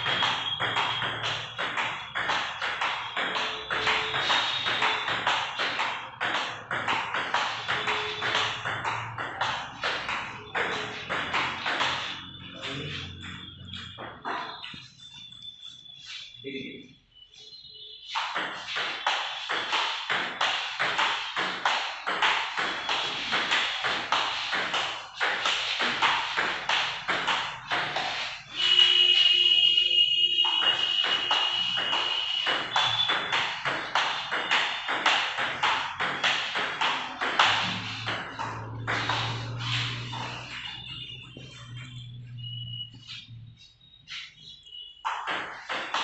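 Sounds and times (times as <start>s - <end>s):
table tennis ball hits: 0.0s - 14.9s, 18.0s - 29.6s, 30.4s - 42.4s, 44.2s - 46.0s.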